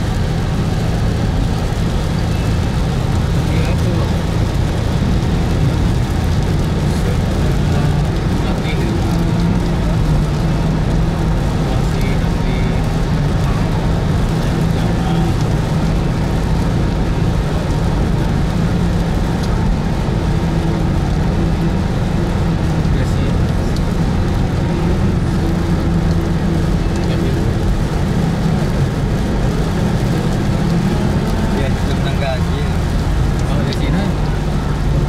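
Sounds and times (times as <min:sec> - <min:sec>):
car engine and road hum: 0:00.0 - 0:35.0
tyres on wet road: 0:00.0 - 0:35.0.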